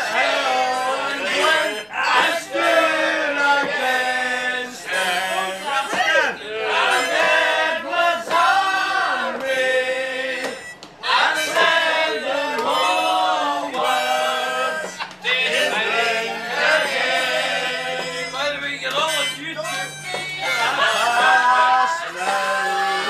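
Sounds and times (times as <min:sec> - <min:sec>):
group of people singing: 0:00.0 - 0:18.9, 0:19.9 - 0:23.0
harmonica: 0:00.0 - 0:23.0.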